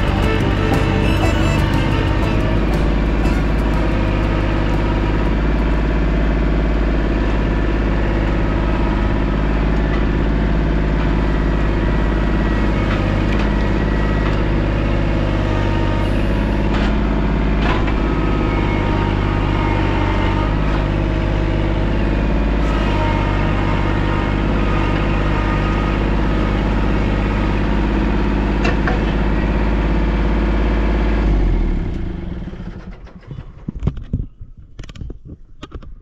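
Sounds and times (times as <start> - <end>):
tractor diesel engine running: 0.0 - 33.8.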